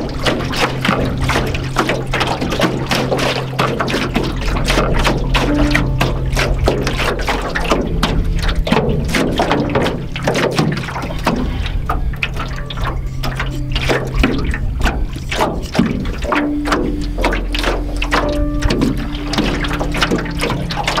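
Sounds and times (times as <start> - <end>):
small waves lapping against hull: 0.0 - 21.0
steady low hum: 0.0 - 21.0.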